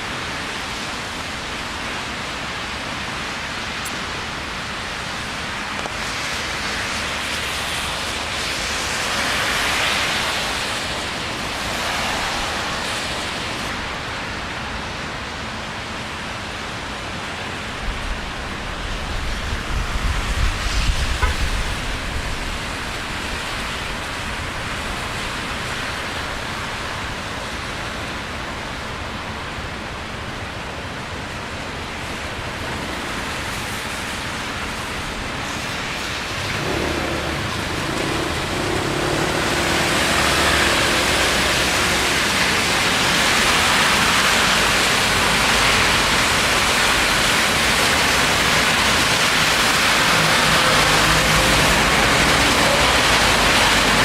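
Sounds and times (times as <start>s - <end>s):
rain hissing on street: 0.0s - 54.0s
wet traffic noise: 0.0s - 54.0s.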